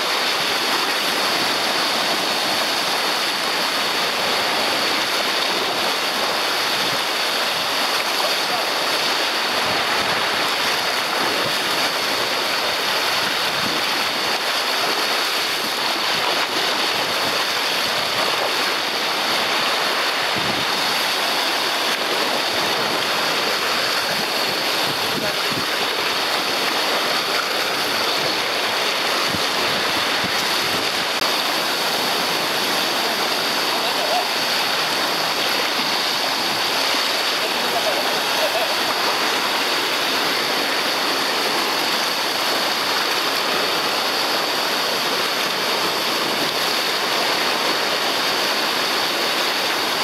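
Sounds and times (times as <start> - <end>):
churning sea water rushing: 0.0 - 50.0.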